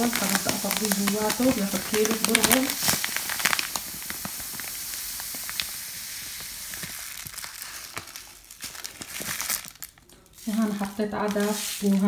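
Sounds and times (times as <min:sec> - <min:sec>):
grain pouring into plastic canister: 0:00.0 - 0:12.0
plastic bag crinkling: 0:00.0 - 0:12.0.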